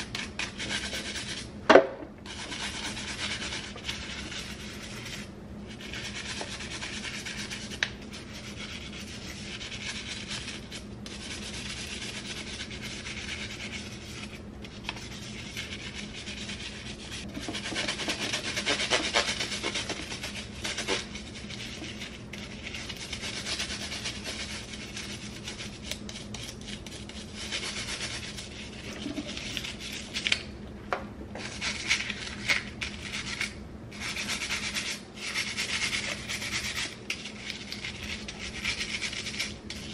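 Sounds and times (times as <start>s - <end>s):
scrub brush scrubbing plastic: 0.0s - 1.6s, 2.3s - 30.4s, 31.4s - 39.9s
steady low hum: 0.0s - 39.9s.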